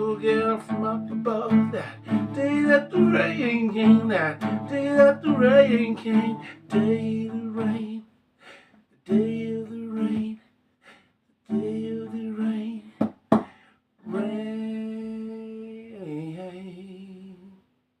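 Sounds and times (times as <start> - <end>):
man singing folk song: 0.0 - 8.1, 9.0 - 10.4, 11.5 - 17.6.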